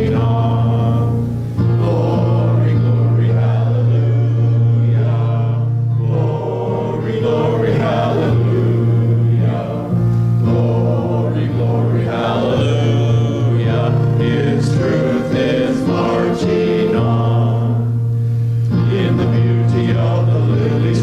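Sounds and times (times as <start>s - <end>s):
congregation singing a hymn: 0.0s - 21.0s.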